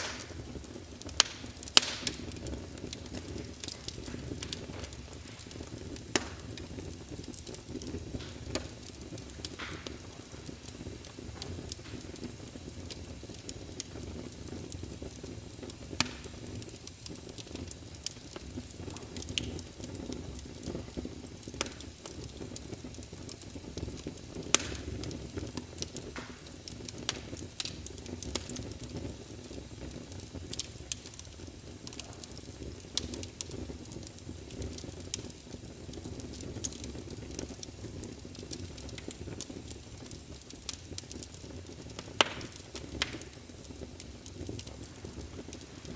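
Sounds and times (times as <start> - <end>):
fireplace fire crackling: 0.0 - 45.9.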